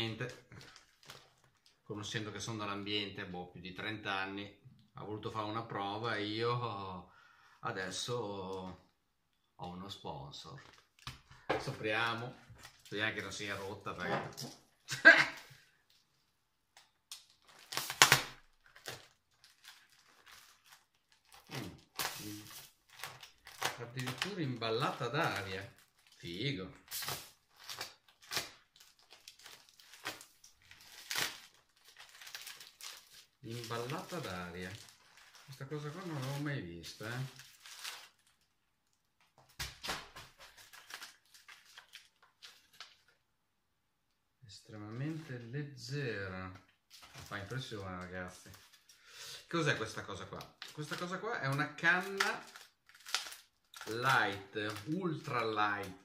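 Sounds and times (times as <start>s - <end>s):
plastic packaging crackling: 0.0s - 2.0s, 10.4s - 16.1s, 16.7s - 43.2s, 44.8s - 56.0s.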